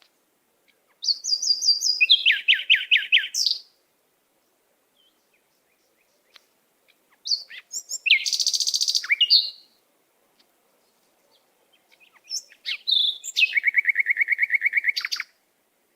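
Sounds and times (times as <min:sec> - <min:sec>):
songbird singing: 0:00.0 - 0:15.9.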